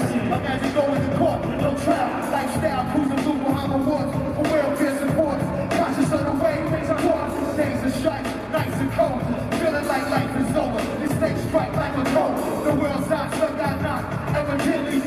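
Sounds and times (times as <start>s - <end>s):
person rapping into microphone: 0.0s - 15.0s.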